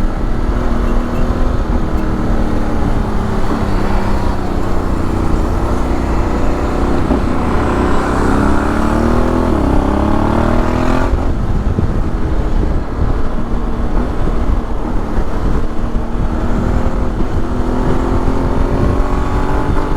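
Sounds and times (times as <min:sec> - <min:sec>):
motorcycle engine running: 0:00.0 - 0:19.9
wind noise: 0:00.0 - 0:19.9.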